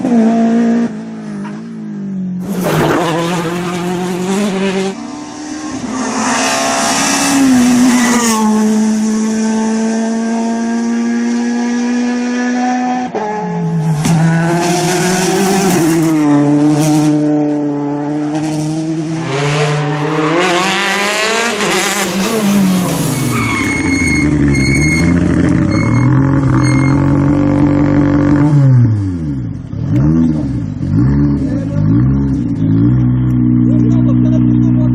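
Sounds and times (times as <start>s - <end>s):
rally car engine revving: 2.4s - 34.9s.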